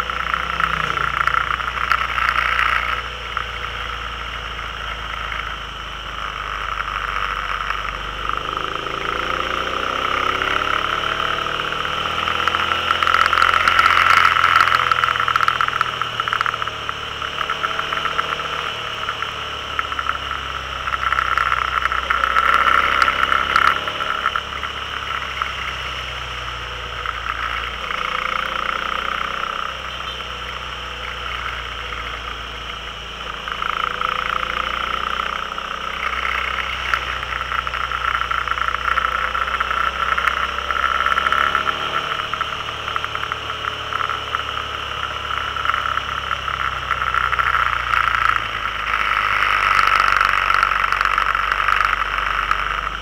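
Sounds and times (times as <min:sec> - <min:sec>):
vehicle engine and road noise: 0:00.0 - 0:53.0.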